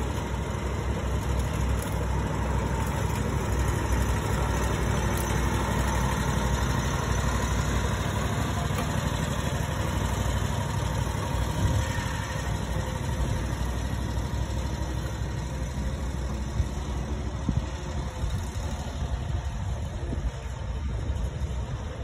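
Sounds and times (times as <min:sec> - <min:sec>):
mower engine cutting grass: 0:00.0 - 0:22.0.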